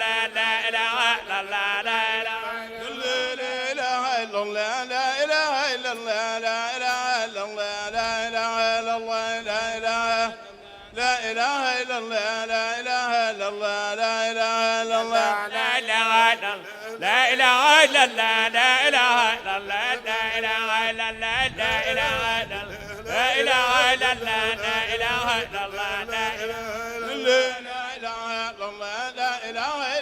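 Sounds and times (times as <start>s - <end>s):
lead voice singing ornamented phrases: 0.0s - 30.0s.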